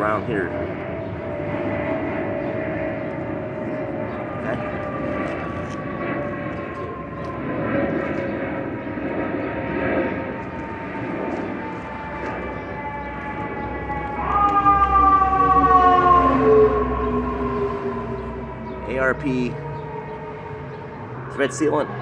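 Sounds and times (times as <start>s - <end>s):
siren wailing: 0.0s - 22.0s.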